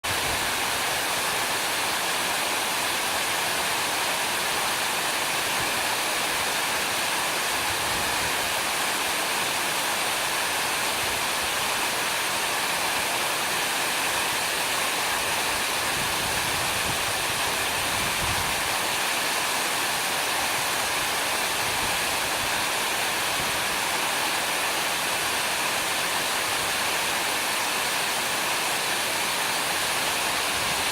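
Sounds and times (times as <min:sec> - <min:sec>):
waterfall splashing into pool: 0:00.0 - 0:30.9.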